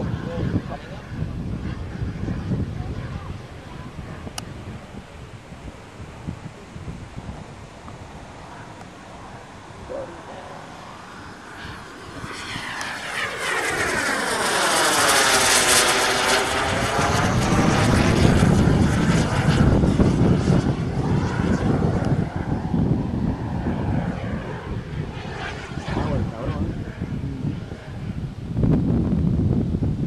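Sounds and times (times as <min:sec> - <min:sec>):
model jet passing overhead: 0:00.0 - 0:30.0.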